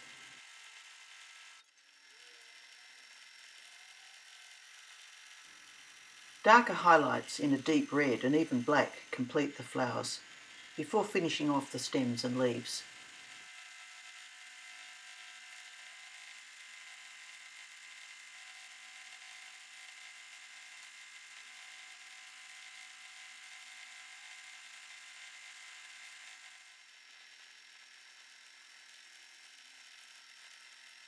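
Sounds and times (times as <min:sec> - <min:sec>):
sewing machine motor whir: 0:00.0 - 0:31.0.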